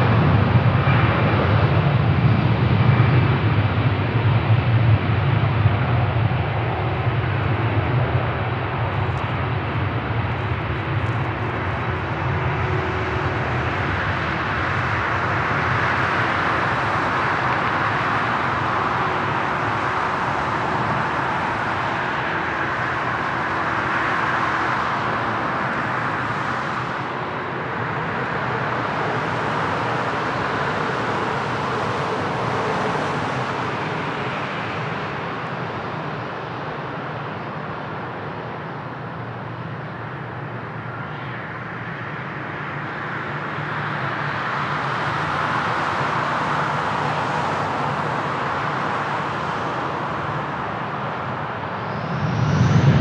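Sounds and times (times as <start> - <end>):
jet engines rushing: 0.0 - 53.0.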